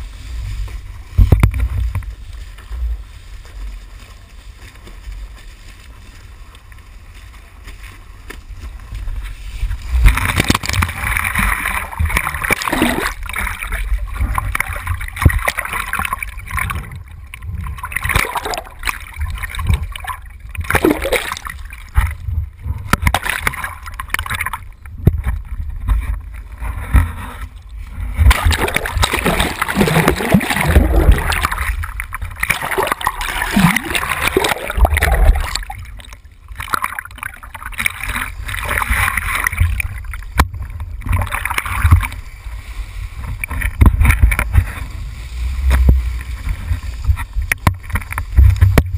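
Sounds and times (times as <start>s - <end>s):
water rushing and splashing: 0.0s - 48.9s.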